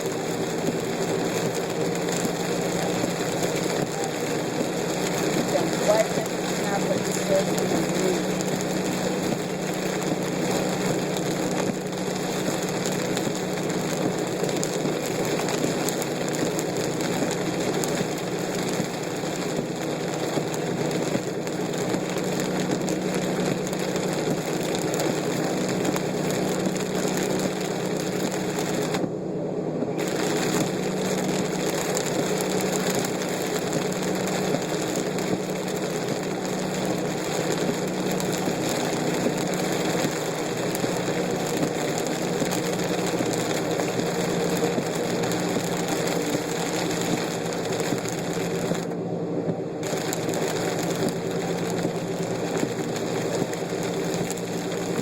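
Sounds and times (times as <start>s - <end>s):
heavy rain pattering on car: 0.0s - 29.2s, 29.8s - 55.0s
car engine running: 0.0s - 55.0s.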